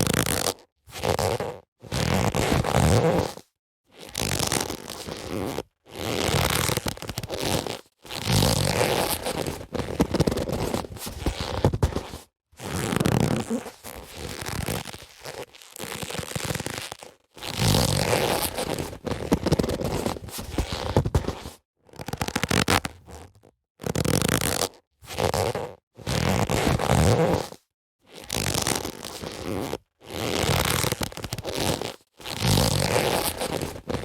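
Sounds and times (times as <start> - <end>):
leather gloves rubbing: 4.0 - 27.6, 28.2 - 34.0.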